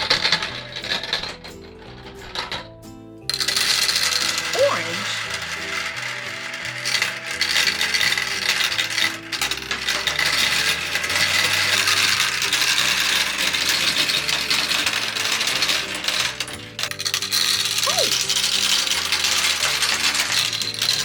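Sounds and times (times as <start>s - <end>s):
balls rattling down a plastic run: 0.0s - 21.0s.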